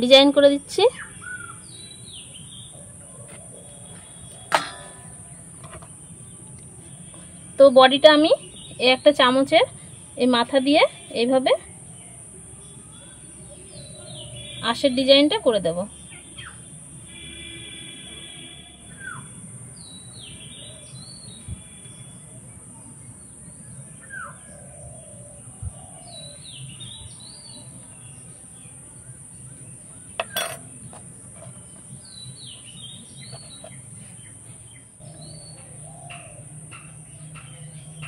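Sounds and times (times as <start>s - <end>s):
small birds chirping: 0.0s - 16.9s, 18.9s - 38.0s.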